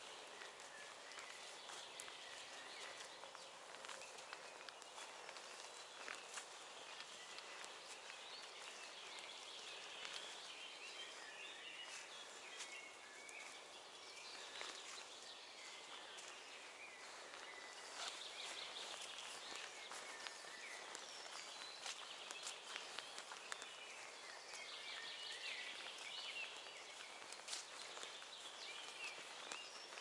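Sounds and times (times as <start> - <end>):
footsteps on grass: 0.0 - 30.0
songbirds singing: 0.0 - 30.0.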